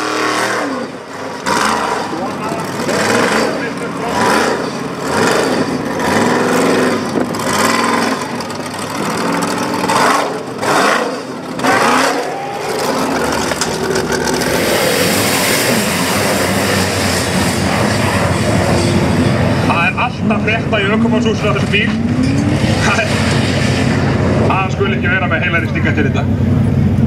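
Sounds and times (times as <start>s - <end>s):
buggy engine revving hard: 0.0s - 25.2s.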